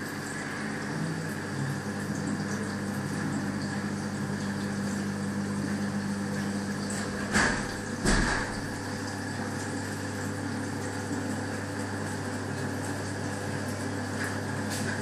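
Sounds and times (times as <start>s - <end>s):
pump hum: 0.0s - 15.0s
water flowing and trickling: 0.0s - 15.0s.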